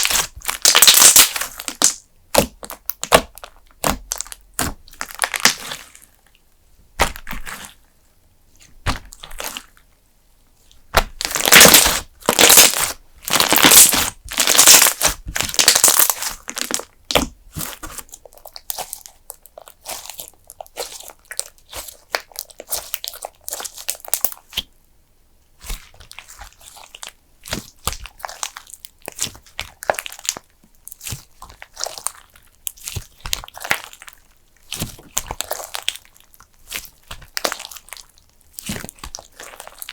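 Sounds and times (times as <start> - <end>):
slime crackling and popping: 0.0 - 6.1, 7.0 - 7.8, 10.9 - 24.7, 25.6 - 39.9.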